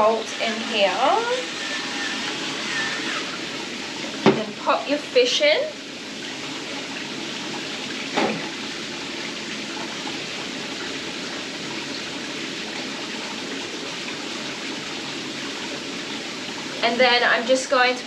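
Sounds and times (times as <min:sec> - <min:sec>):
water simmering in fry pan: 0:00.0 - 0:18.0.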